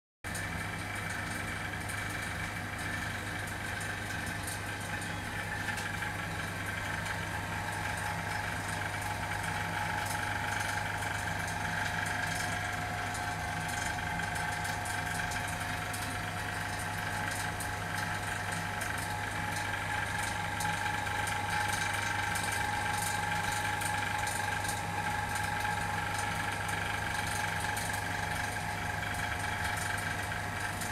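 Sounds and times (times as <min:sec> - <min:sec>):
vacuum pump humming and whining: 0:00.3 - 0:30.9.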